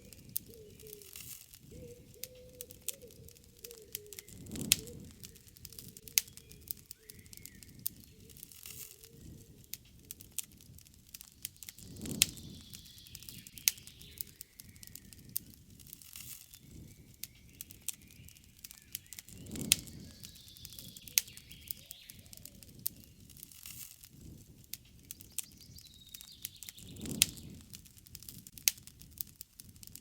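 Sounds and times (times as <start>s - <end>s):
faint birds calling: 0.0s - 23.6s, 24.8s - 27.7s
campfire crackling and popping: 0.0s - 30.0s.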